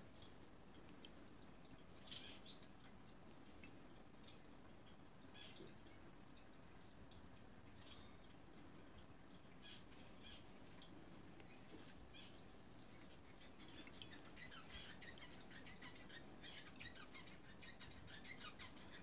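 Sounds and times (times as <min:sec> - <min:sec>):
small water splashes: 0:00.0 - 0:19.0.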